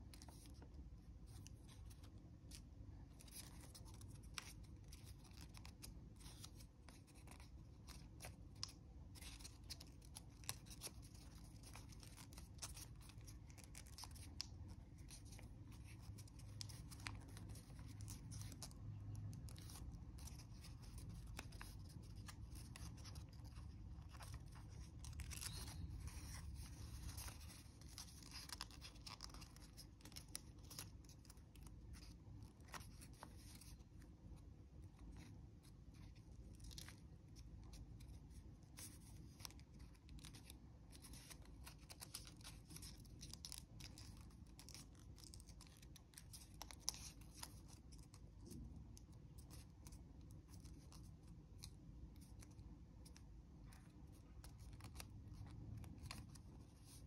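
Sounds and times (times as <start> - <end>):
paper crinkling being folded: 0.0 - 57.0.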